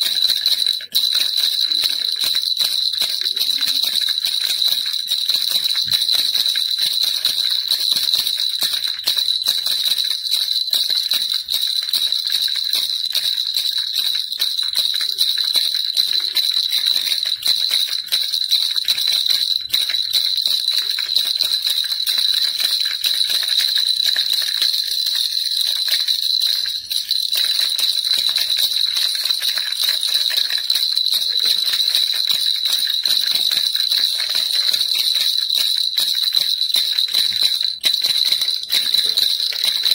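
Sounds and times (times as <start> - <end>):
baby rattle jingling: 0.0 - 39.9.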